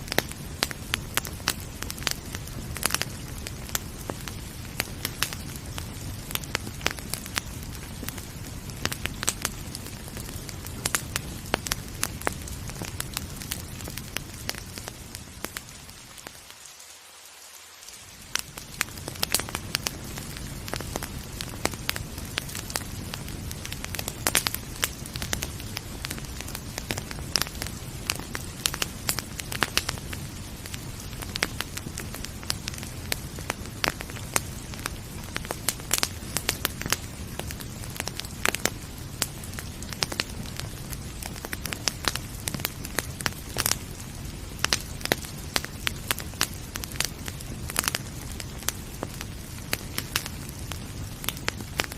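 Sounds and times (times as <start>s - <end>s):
rain hissing: 0.0s - 51.9s
wood fire crackling and popping: 0.0s - 51.9s.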